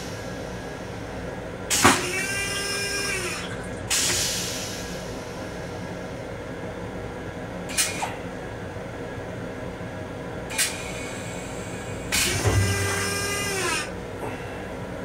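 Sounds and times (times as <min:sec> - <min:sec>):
electric railcar hum: 0:02.6 - 0:15.0.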